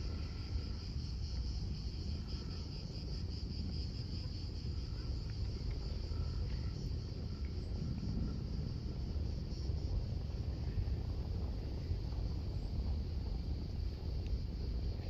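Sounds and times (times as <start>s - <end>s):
cicadas buzzing: 0.0s - 15.0s
wind on microphone: 0.0s - 15.0s.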